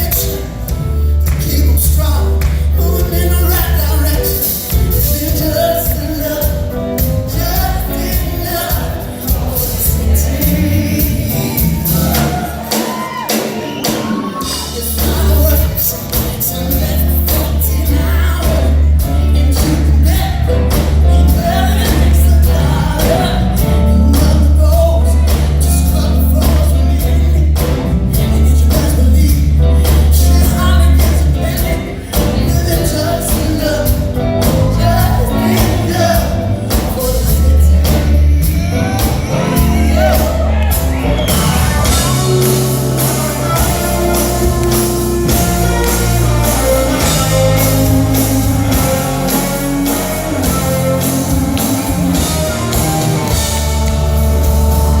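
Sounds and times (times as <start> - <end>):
heavy bass line: 0.0 - 12.7, 14.4 - 55.0
live rock band: 0.0 - 55.0
sung vocals: 0.0 - 55.0.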